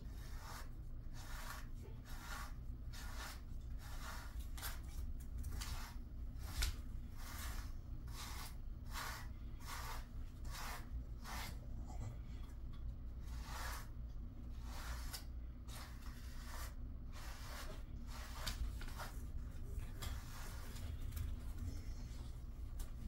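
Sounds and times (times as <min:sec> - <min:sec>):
brush raking through dog fur: 0:00.1 - 0:12.0, 0:13.2 - 0:21.2.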